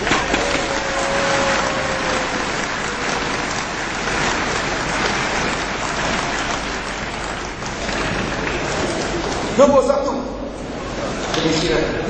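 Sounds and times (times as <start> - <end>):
crowd applauding: 0.0 - 9.9.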